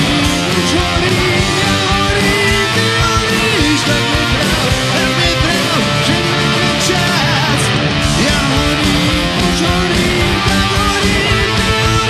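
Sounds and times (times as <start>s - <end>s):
bass guitar: 0.0s - 12.0s
distorted electric guitar: 0.0s - 12.0s
drums: 0.0s - 12.0s.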